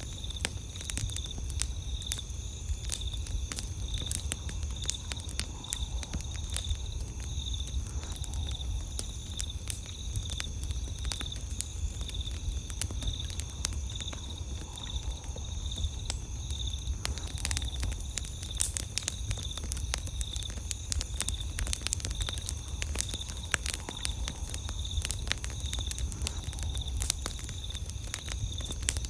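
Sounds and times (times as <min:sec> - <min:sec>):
campfire crackling and popping: 0:00.0 - 0:29.0
insect chirping: 0:00.0 - 0:29.0
night insects trilling: 0:00.0 - 0:29.0.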